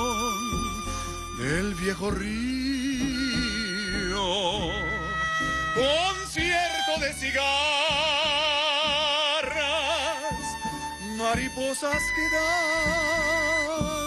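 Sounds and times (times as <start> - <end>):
man singing operatically: 0.0 - 14.0
string ensemble: 0.0 - 14.0.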